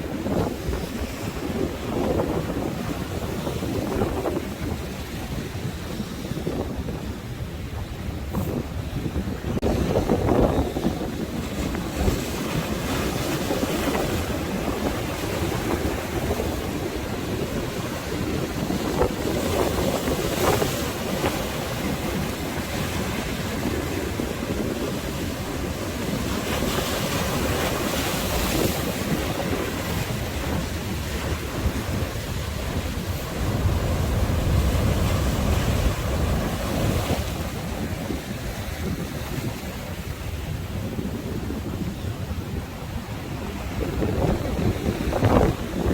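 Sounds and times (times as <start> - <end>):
sea waves breaking: 0.0 - 45.9
wind buffeting microphone: 0.0 - 45.9.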